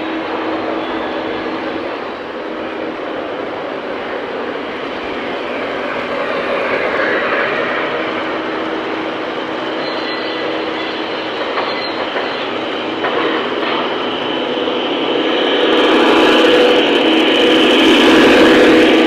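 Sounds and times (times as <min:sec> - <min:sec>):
model trains rumbling: 0:00.0 - 0:19.0.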